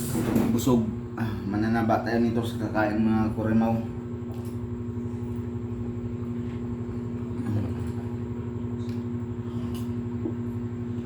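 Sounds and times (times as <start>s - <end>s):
motor humming with low pulsing: 0.0s - 11.0s.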